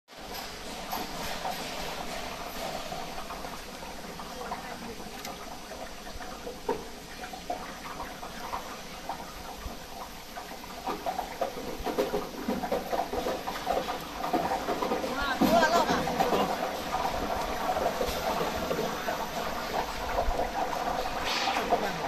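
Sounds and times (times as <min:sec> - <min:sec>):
hot oil sizzling and bubbling: 0:00.1 - 0:22.0.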